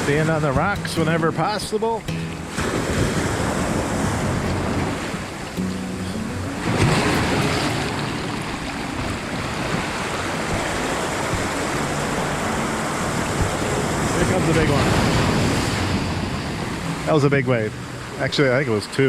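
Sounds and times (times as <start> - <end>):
surf washing on rocky shore: 0.0 - 19.0
wave crashing: 0.0 - 19.0.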